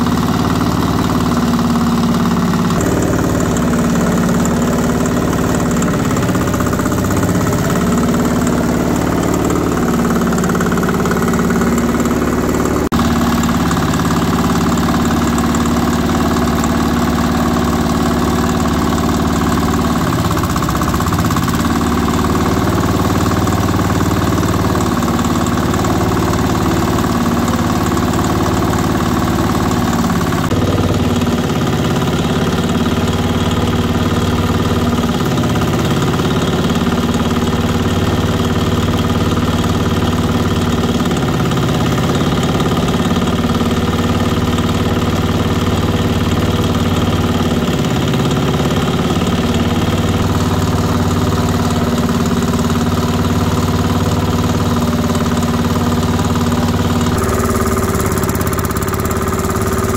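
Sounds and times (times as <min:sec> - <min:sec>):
diesel engine running: 0:00.0 - 0:59.9
meat grinder: 0:00.0 - 0:59.9.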